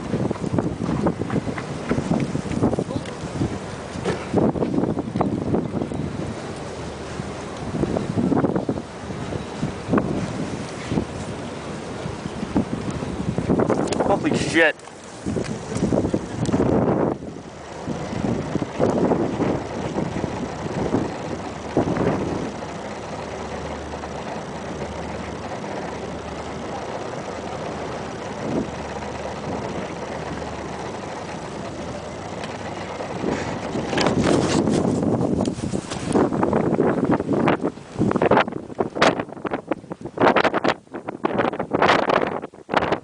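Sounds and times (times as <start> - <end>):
low steady hum: 0.0 - 40.1
wind rushing over microphone: 0.0 - 43.0.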